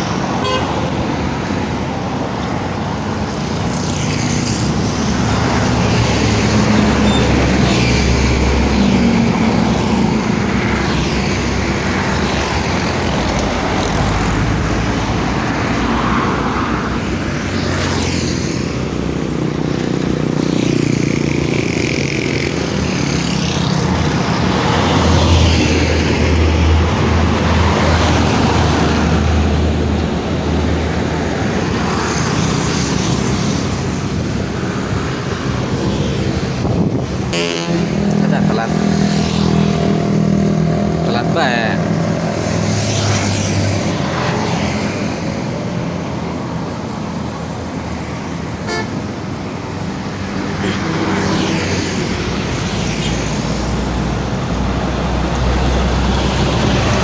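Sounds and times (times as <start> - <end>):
large vehicles passing: 0.0 - 57.0.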